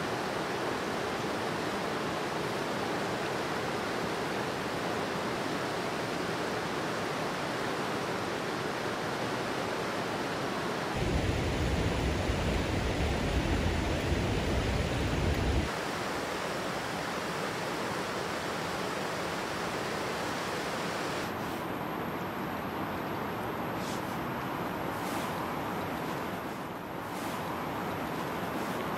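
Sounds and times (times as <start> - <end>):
river water rushing over rapids: 0.0 - 28.9.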